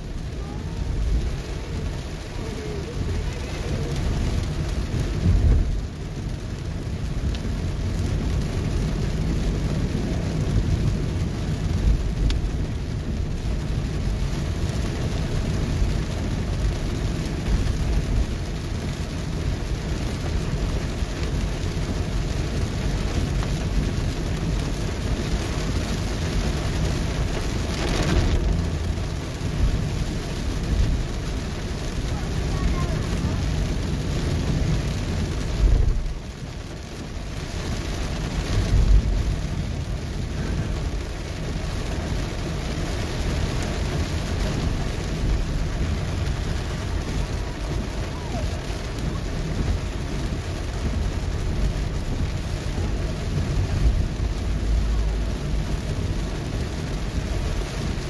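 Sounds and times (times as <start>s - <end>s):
car deep steady rumble: 0.0s - 58.0s
heavy rain on car roof: 0.0s - 58.0s.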